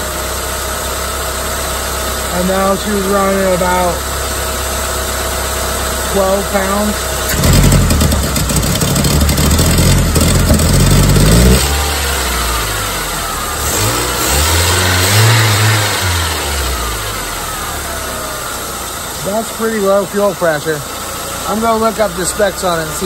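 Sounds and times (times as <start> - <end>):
car engine revving and idling: 0.0 - 23.0.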